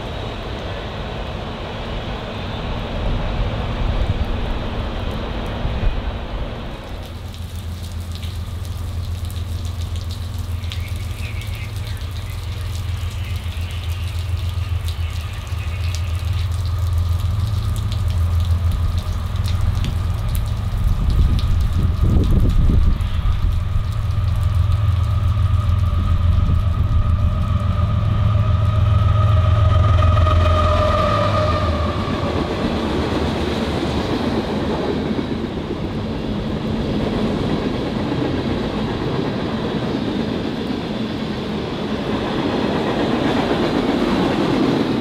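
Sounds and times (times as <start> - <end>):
approaching train low rumble: 0.0 - 45.0
freight train rumbling on rails: 0.0 - 45.0.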